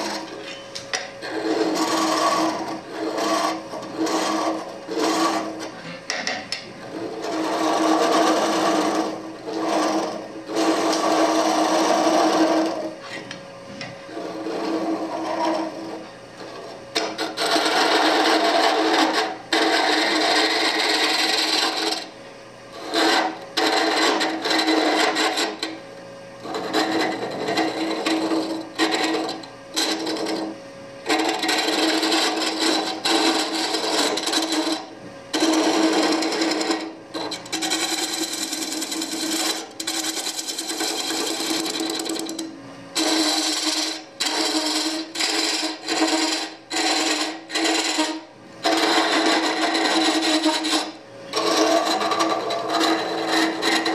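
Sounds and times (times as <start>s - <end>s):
gouge scraping spinning wood: 0.0s - 25.8s, 26.4s - 53.9s
lathe humming: 0.0s - 53.9s.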